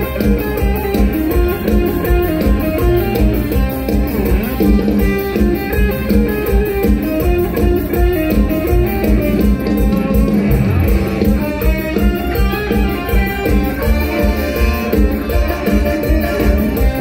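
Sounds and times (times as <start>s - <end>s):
plucked-string band music: 0.0s - 17.0s.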